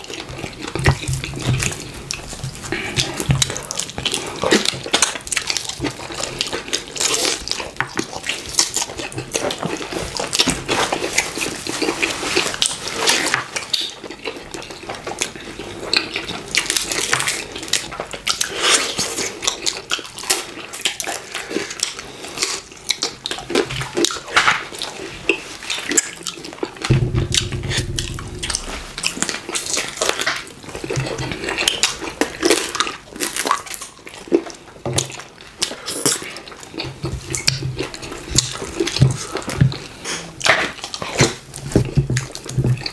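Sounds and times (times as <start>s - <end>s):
people chewing wetly: 0.0s - 27.0s, 29.5s - 42.9s.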